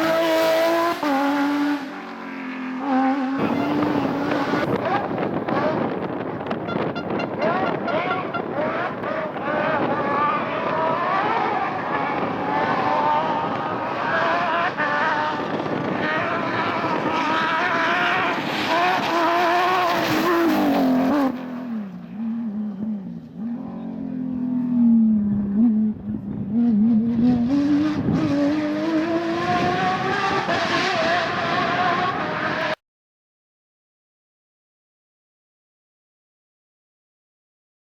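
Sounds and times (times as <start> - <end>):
rally car engine revving: 0.0 - 32.8.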